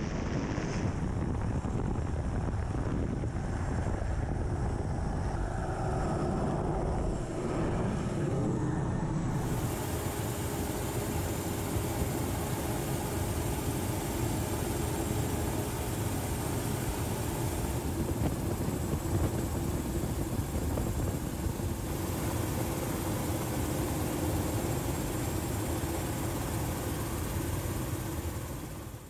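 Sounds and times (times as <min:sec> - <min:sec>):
helicopter engine and rotor: 0:02.1 - 0:29.0.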